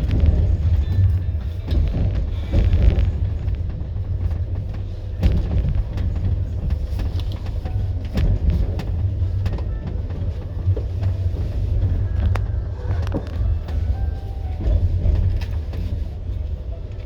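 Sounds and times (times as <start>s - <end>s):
train knocks and clicks: 0.0s - 17.0s
train rumbling: 0.0s - 17.0s.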